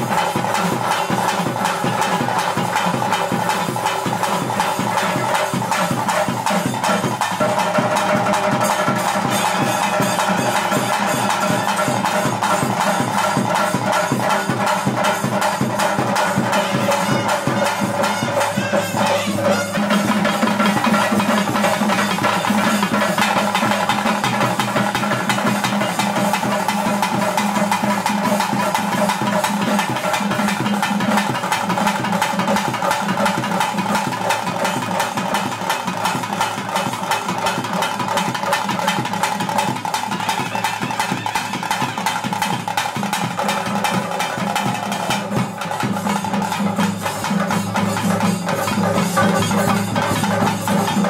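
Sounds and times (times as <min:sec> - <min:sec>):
fast continuous drumming: 0:00.0 - 0:51.0.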